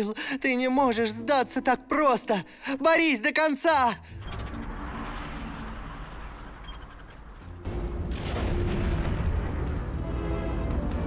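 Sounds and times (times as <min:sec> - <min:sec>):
dramatic background music: 0:00.0 - 0:11.0.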